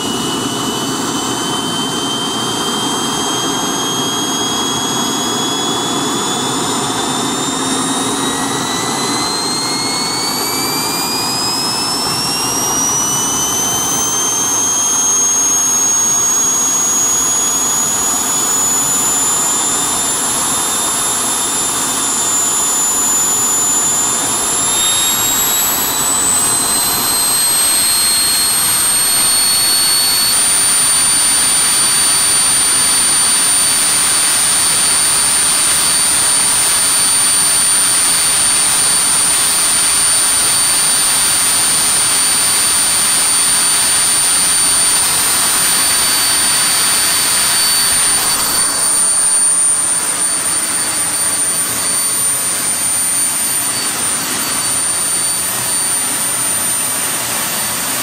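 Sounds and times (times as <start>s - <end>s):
turbojet engine whine: 0.0s - 58.0s.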